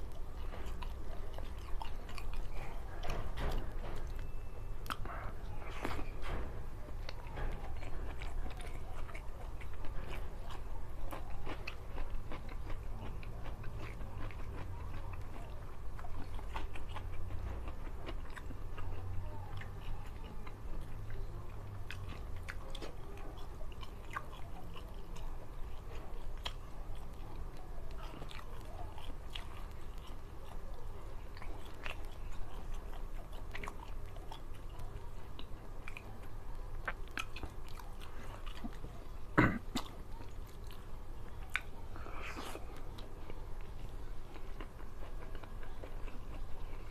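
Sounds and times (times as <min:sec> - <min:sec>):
man chewing food: 0:00.0 - 0:46.9.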